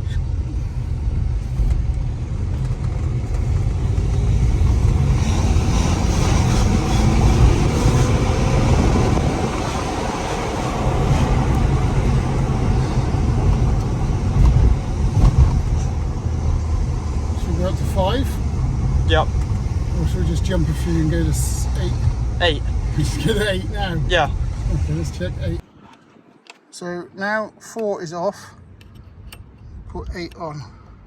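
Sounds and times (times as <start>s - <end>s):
diesel car engine accelerating: 0.0s - 25.6s
low road rumble: 0.0s - 26.9s.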